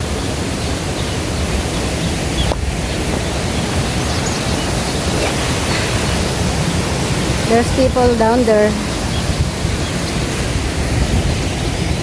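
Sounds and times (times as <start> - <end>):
fast-flowing river water rushing: 0.0 - 12.0.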